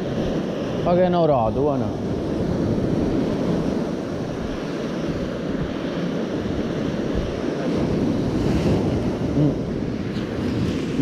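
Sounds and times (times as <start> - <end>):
sea surf washing on shore: 0.0 - 11.0
wind on microphone: 0.0 - 11.0.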